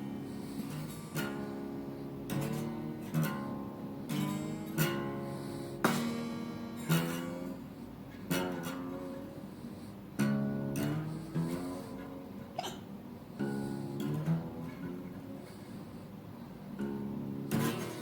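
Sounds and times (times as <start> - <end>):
slide acoustic guitar blues: 0.0 - 18.0.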